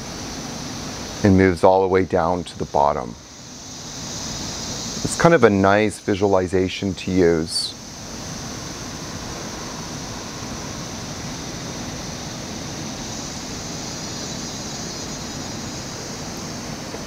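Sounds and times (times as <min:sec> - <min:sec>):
steady ambient hiss: 0:00.0 - 0:17.0.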